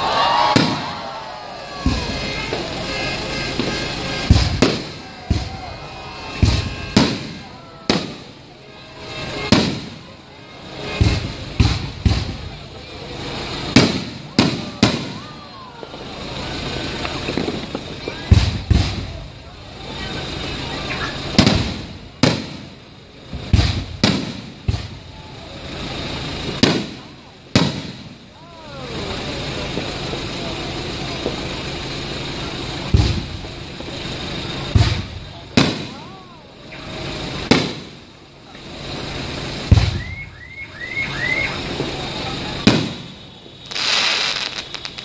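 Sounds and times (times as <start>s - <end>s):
firework shells bursting: 0.3s - 28.4s, 36.7s - 45.0s.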